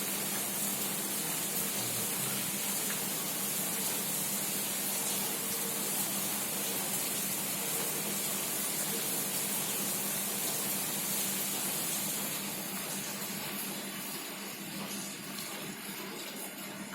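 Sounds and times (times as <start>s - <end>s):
heavy rain falling: 0.0s - 13.6s.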